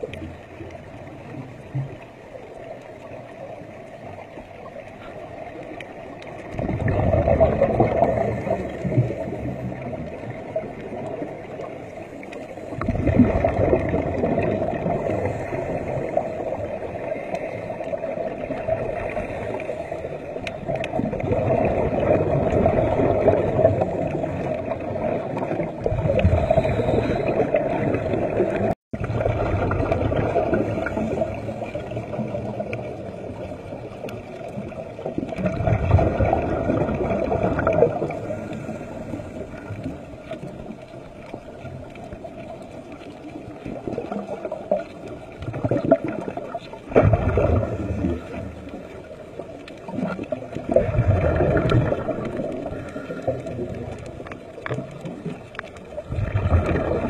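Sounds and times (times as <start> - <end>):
underwater exhaled air bubbling: 0.0 - 57.0.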